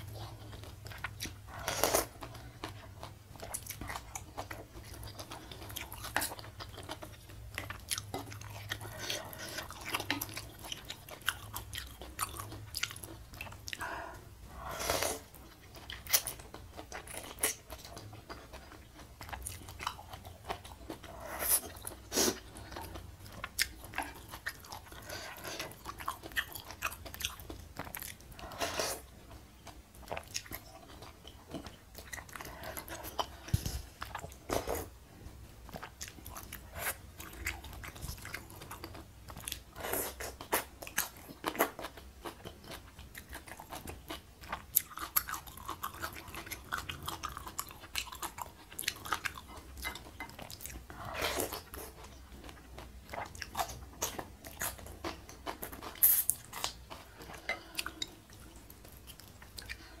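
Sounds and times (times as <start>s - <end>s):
close chewing and crunchy bites: 0.0s - 14.2s, 15.0s - 34.9s, 35.7s - 60.0s.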